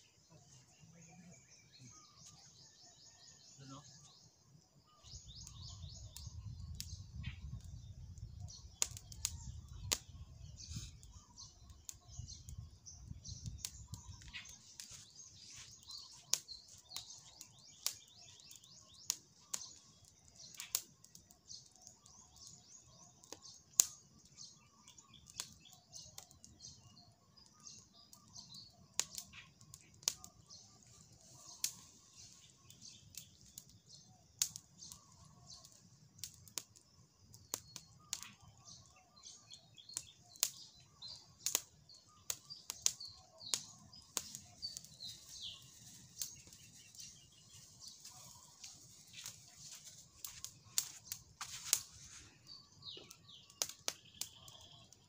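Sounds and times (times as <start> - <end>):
birds chirping chorus: 0.0 - 55.0.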